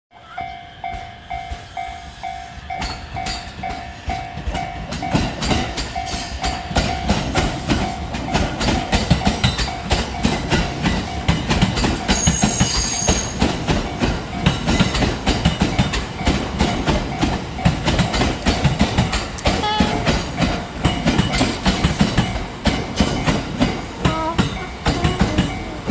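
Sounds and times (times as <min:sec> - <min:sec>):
level-crossing warning bell ringing: 0:00.1 - 0:25.9
train wheels clattering over rail joints: 0:02.6 - 0:25.9.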